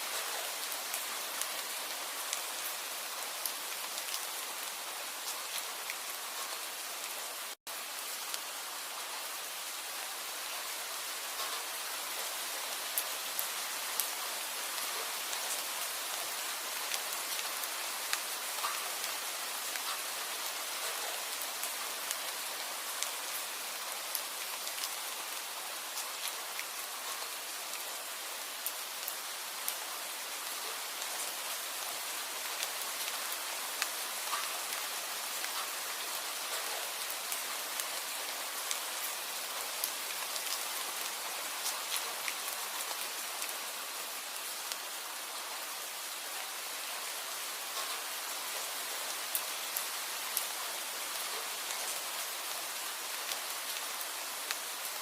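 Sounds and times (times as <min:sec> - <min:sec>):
steady rain with drop ticks: 0:00.0 - 0:55.0.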